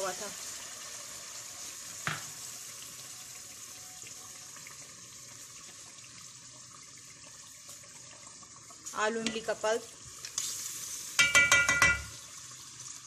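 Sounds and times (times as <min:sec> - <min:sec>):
gravy simmering and sizzling: 0:00.0 - 0:13.0.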